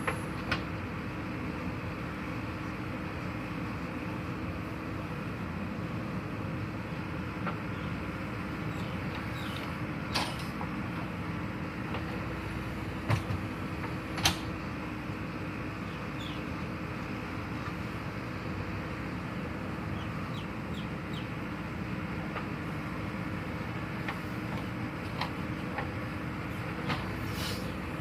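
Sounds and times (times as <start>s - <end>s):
heavy vehicle engine running: 0.0s - 28.0s.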